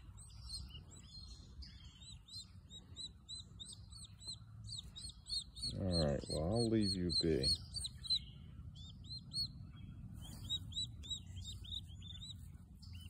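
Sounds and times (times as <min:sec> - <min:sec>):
turkey poults peeping: 0:00.0 - 0:13.0.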